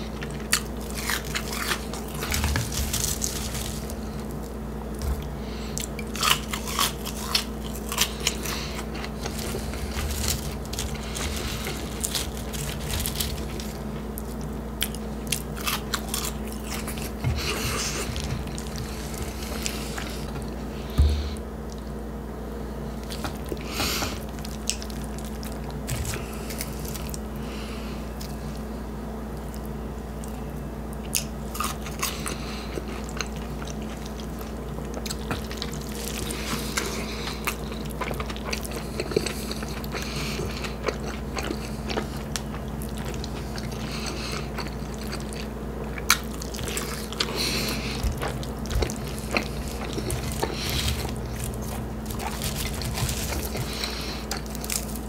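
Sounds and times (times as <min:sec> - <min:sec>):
person chewing and crunching: 0:00.0 - 0:22.0, 0:22.9 - 0:28.8, 0:29.4 - 0:55.0
steady low hum: 0:00.0 - 0:55.0.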